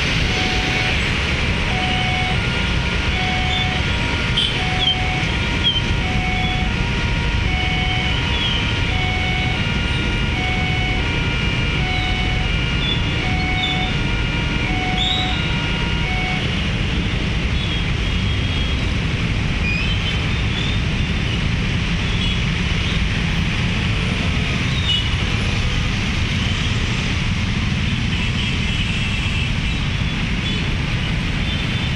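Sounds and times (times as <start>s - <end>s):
motorbikes and cars on wet road: 0.0s - 31.9s.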